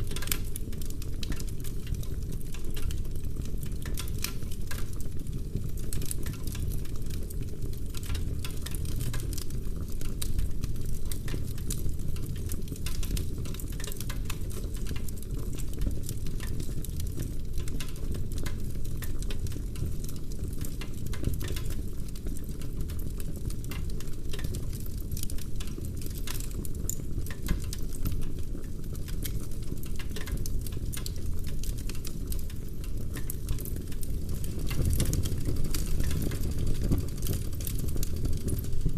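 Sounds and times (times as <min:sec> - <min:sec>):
fire low rumble: 0:00.0 - 0:38.9
logs crackling and popping: 0:00.0 - 0:38.9.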